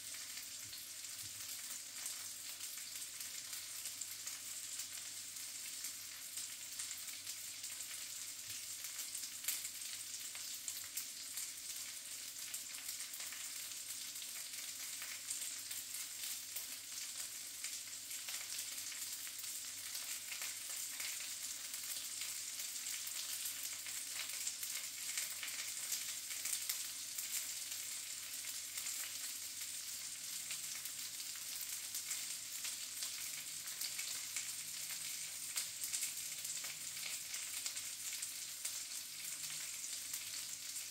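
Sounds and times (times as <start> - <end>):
sausages sizzling in a pan: 0.0 - 40.9.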